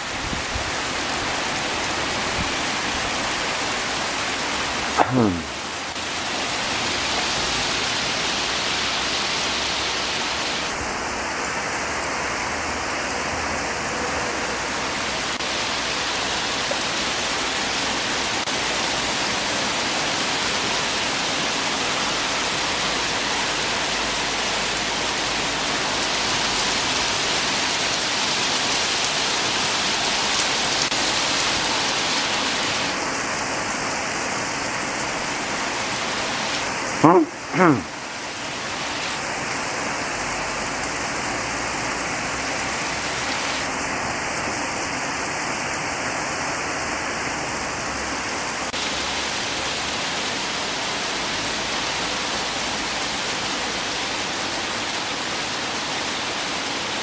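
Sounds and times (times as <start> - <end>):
torrential rain pouring: 0.0 - 57.0.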